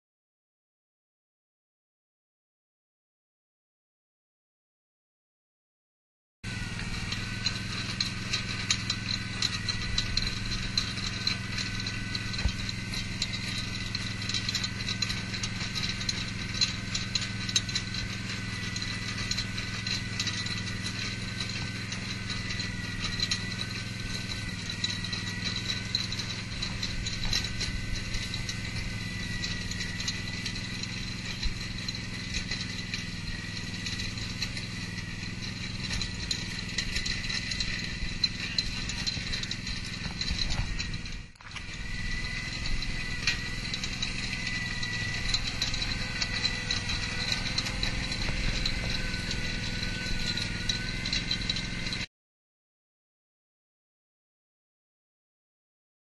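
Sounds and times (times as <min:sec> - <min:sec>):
tractor engine running: 0:06.4 - 0:52.1
rototiller tines rattling in soil: 0:06.5 - 0:52.1.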